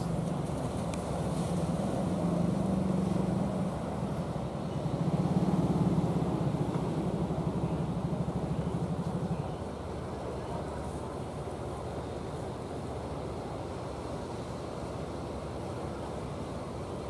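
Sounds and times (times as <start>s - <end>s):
boat engines chugging: 0.0s - 17.0s.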